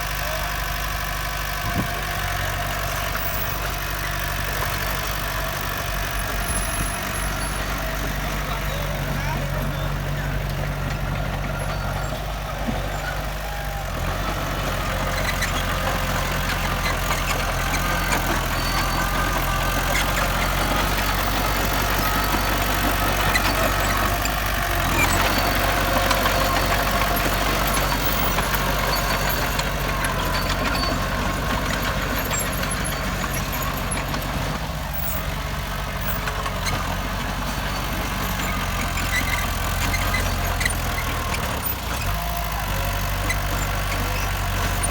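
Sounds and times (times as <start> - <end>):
heavy machinery diesel engine running: 0.0 - 44.9.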